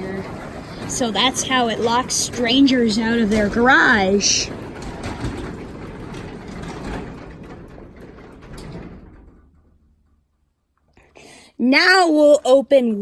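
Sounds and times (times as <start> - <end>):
garage door opener running: 0.0 - 11.2.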